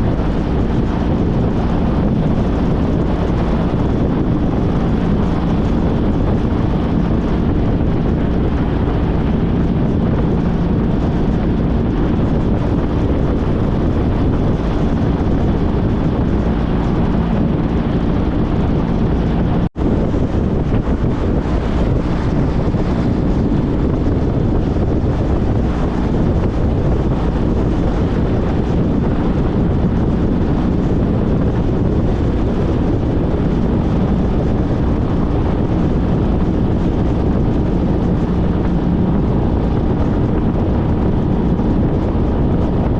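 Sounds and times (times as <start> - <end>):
wind noise on microphone: 0.0 - 42.9.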